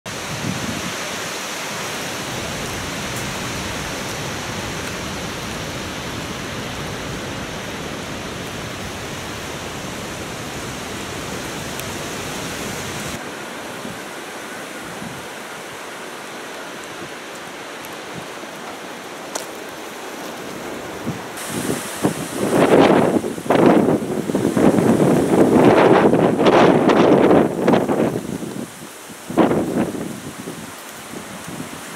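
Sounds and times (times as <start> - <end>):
storm wind rushing: 0.1 - 14.2, 20.4 - 31.9
wind gusts buffeting microphone: 0.1 - 31.9.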